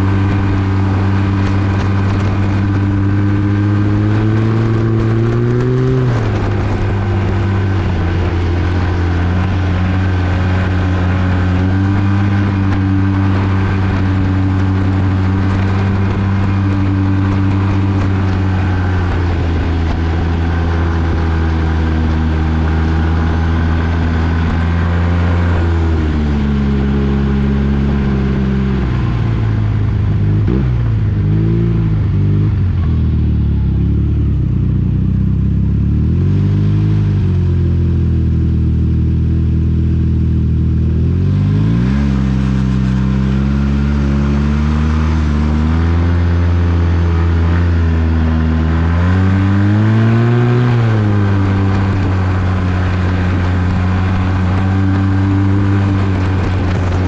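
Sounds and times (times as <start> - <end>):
engine revving with throttle blips: 0.0 - 57.0
snowmobile engine running: 0.0 - 57.0.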